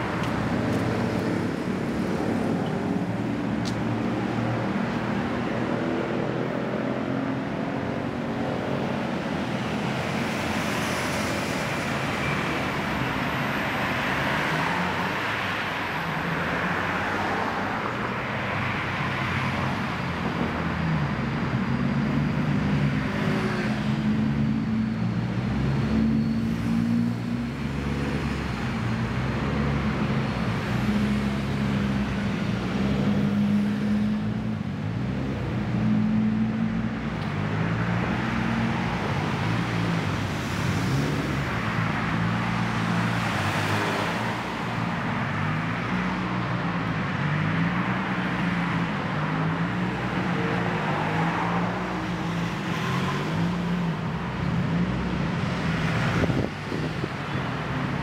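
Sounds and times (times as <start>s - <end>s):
cars passing: 0.0s - 58.0s
engines humming: 0.0s - 58.0s.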